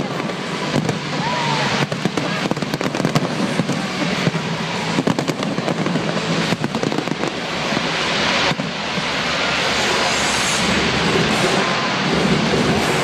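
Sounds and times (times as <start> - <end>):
fireworks cracks and bangs: 0.0 - 13.0
rushing hiss and rumble: 0.0 - 13.0.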